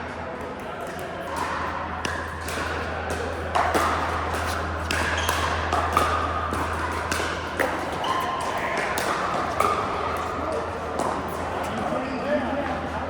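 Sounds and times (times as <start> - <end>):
steady low hum: 0.0 - 13.0
paddles hitting plastic ball: 0.8 - 11.4.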